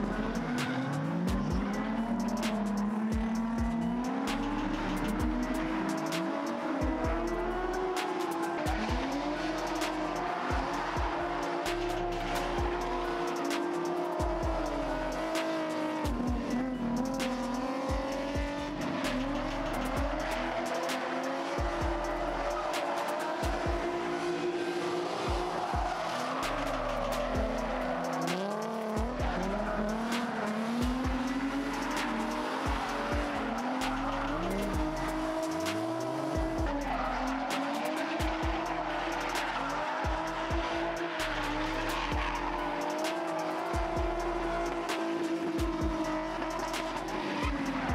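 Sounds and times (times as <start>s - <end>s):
music with steady drumbeat: 0.0s - 24.3s, 25.1s - 47.9s
car engines revving high: 0.0s - 47.9s.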